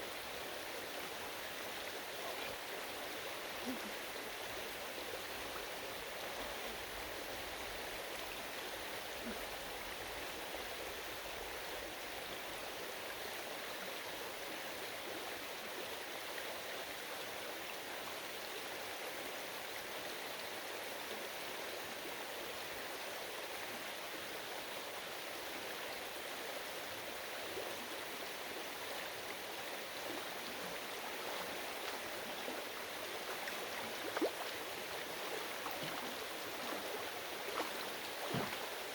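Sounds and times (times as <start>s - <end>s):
stream water over rocks: 0.0s - 38.9s.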